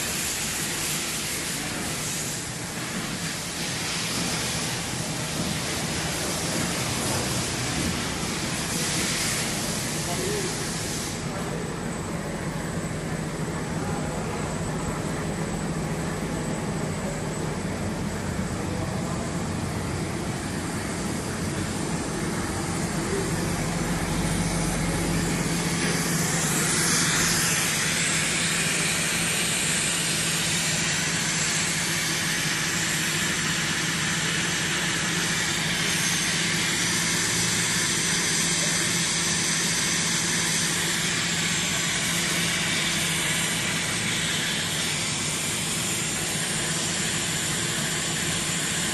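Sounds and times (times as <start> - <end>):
machine hum with hiss: 0.0 - 48.9.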